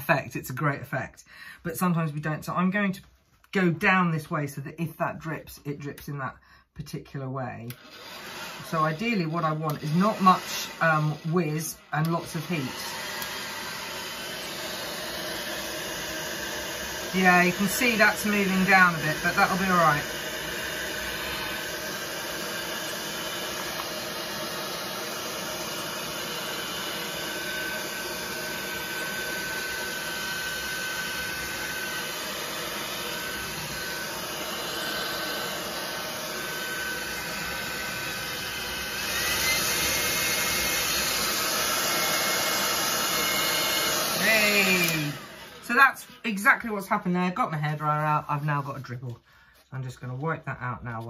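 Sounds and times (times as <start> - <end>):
hairdryer running with whine: 7.2 - 49.2.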